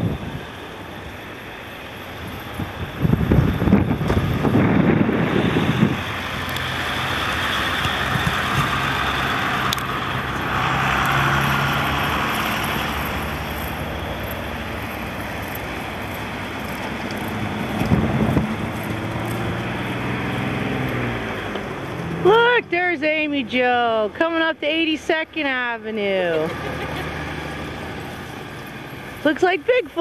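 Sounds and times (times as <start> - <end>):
wind buffeting microphone: 0.0 - 1.3, 2.0 - 26.5
vehicles driving on snowy road: 0.0 - 30.0.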